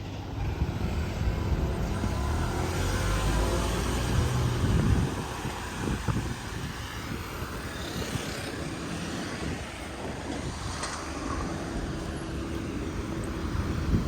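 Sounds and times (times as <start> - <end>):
traffic rumble: 0.0 - 14.0
wind on microphone: 0.1 - 14.0.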